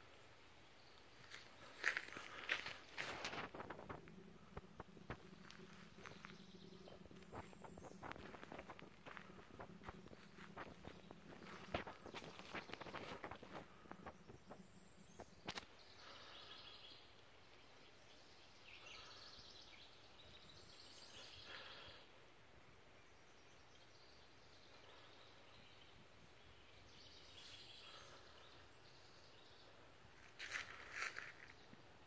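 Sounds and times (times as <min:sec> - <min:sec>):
faint birdsong: 0:00.0 - 0:32.0.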